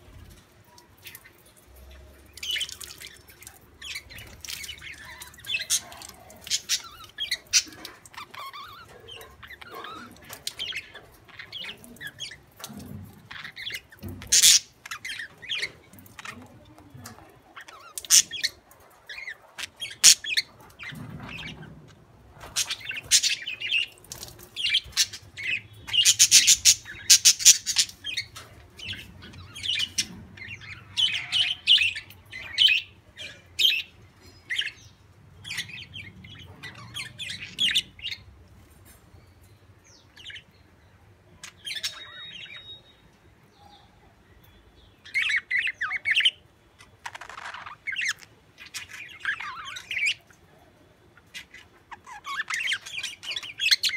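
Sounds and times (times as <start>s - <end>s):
budgerigars chirping and squawking: 2.3s - 39.0s, 40.0s - 40.6s, 41.4s - 43.9s, 45.0s - 50.4s, 51.1s - 53.9s.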